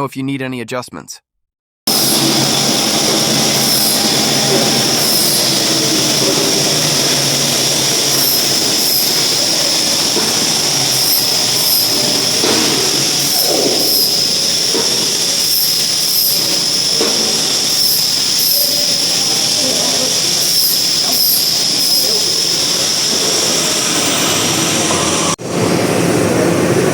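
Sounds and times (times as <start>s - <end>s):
short high hisses: 1.9s - 25.0s
machinery with high whine: 1.9s - 26.9s.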